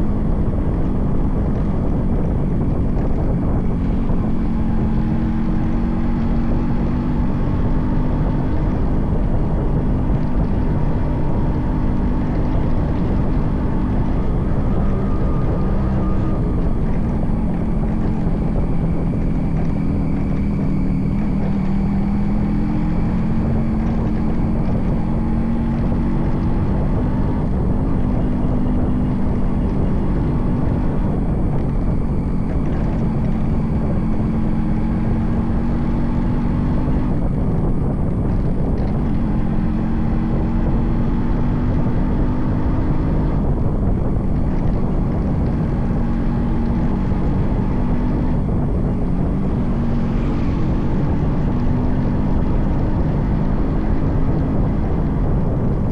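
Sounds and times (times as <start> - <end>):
two-stroke motorcycle engine running: 0.0 - 55.9.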